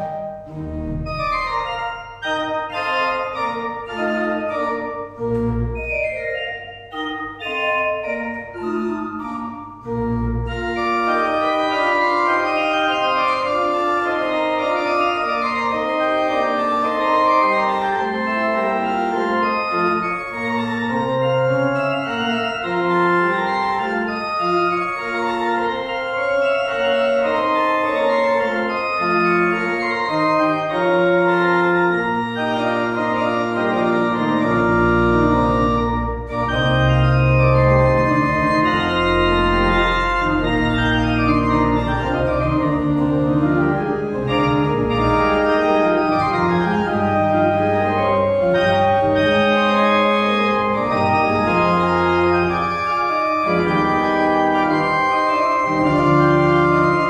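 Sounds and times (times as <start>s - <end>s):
deep organ pedal notes: 0.0s - 57.0s
pipe organ chords: 0.0s - 57.0s.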